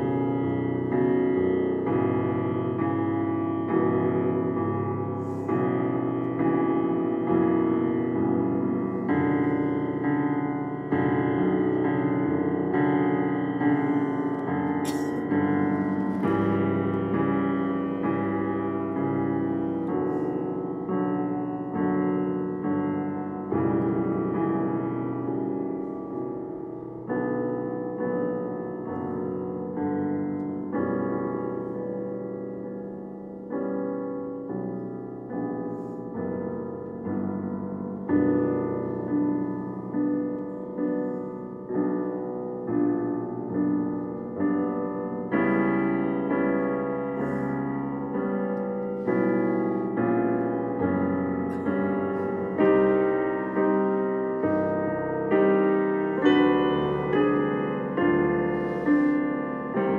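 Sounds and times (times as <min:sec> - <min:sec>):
digital piano chords: 0:00.0 - 0:59.9.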